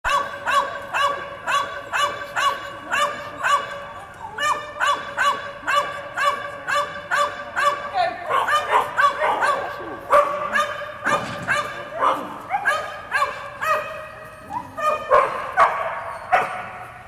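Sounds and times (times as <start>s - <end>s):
dog yipping in echoing hall: 0.0s - 17.0s.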